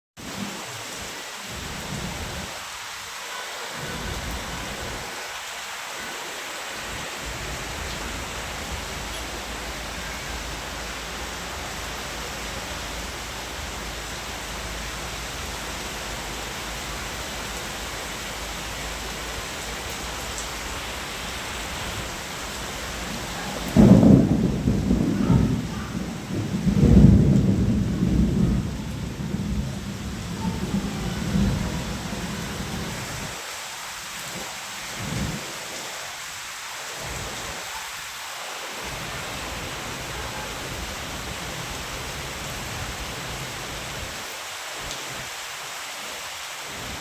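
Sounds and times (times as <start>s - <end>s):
heavy rain hissing: 0.2s - 47.0s.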